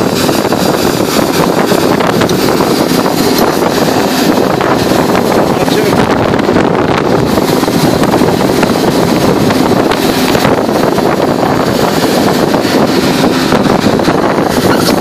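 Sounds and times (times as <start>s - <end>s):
pile driver engine: 0.0s - 15.0s.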